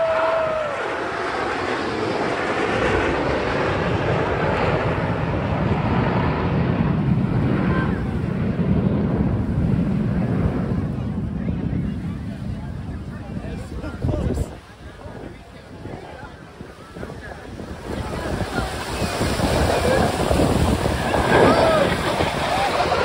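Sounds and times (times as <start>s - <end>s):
jet roar flying past: 0.0s - 23.0s.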